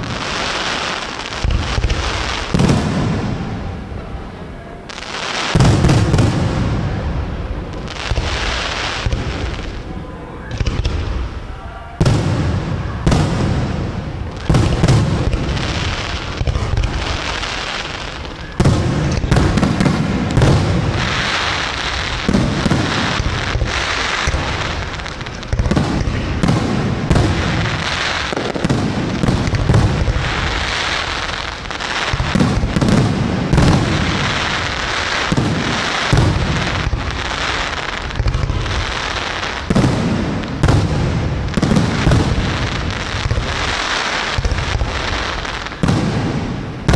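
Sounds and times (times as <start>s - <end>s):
fireworks booming: 0.0s - 46.9s
fireworks crackle: 0.0s - 46.9s.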